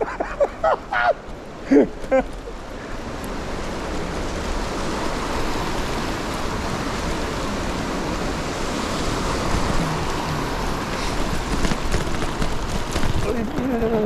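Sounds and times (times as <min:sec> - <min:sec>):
fast-flowing water rushing: 0:00.0 - 0:14.0.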